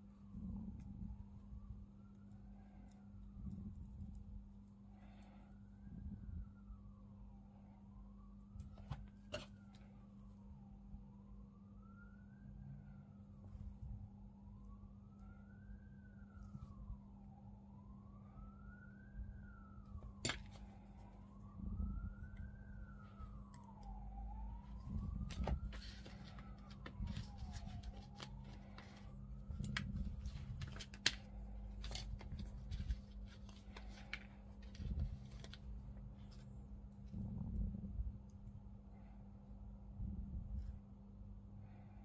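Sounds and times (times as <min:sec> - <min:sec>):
faint siren wailing: 0:00.0 - 0:42.0.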